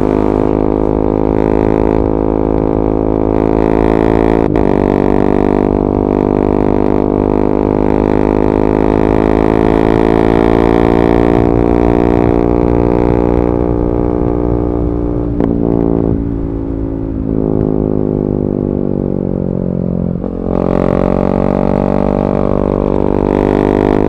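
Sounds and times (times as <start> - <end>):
motorcycle engine droning: 0.0 - 24.0.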